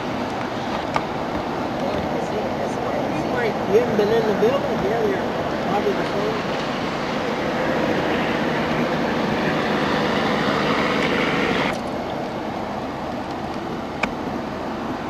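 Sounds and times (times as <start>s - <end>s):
car interior road rumble: 0.0s - 15.0s
tyre hiss on wet road: 0.0s - 15.0s.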